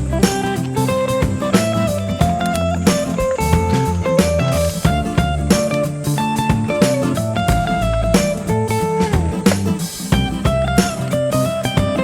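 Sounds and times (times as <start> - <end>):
guitar bass and drums music: 0.0 - 12.0.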